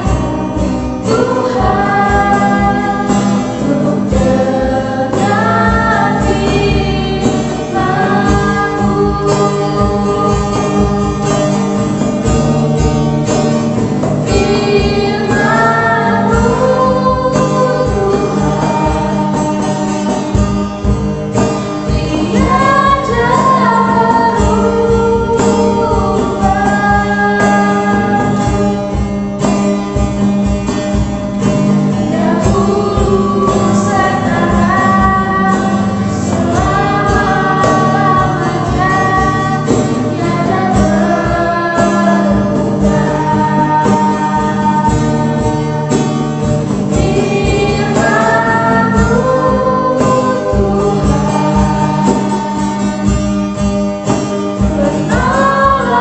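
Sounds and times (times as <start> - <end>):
cajon beat: 0.0 - 56.0
group singing worship song: 0.0 - 56.0
strummed acoustic guitar: 0.0 - 56.0.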